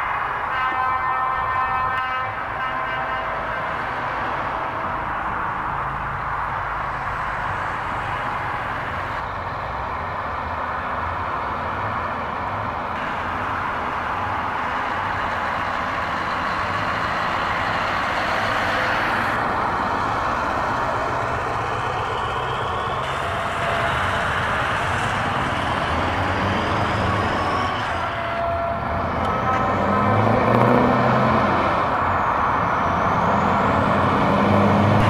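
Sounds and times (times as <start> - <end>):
truck diesel engine rumbling: 0.0 - 35.0.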